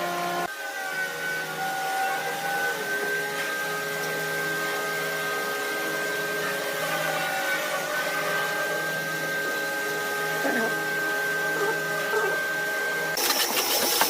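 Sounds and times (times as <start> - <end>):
woodworking lathe running: 0.0 - 14.0.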